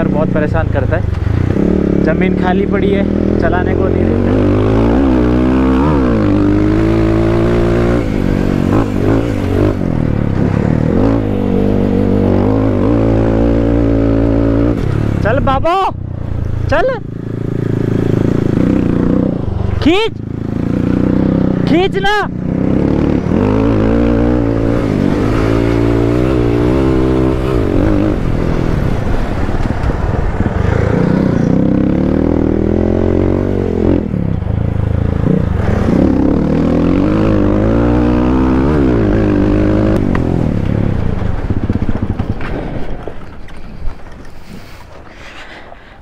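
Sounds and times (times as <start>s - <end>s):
motorcycle engine revving: 0.0s - 43.5s.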